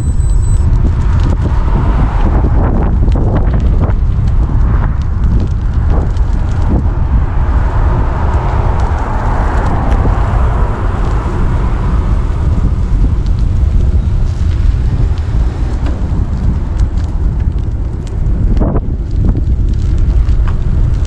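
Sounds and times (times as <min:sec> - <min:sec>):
moving vehicle rumble: 0:00.0 - 0:21.0
wind buffeting microphone: 0:00.0 - 0:21.0.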